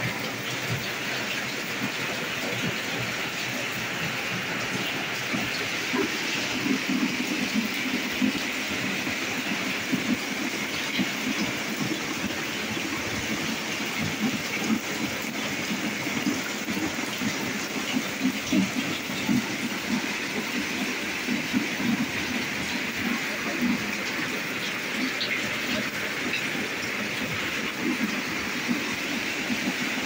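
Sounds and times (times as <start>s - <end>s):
rain hiss: 0.0s - 30.0s
water dripping and splashing: 0.0s - 30.0s.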